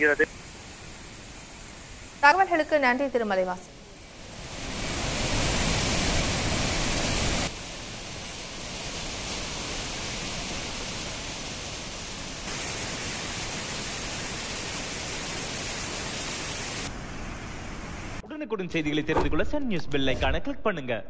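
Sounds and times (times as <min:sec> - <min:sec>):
waterfall roaring: 0:00.0 - 0:18.2.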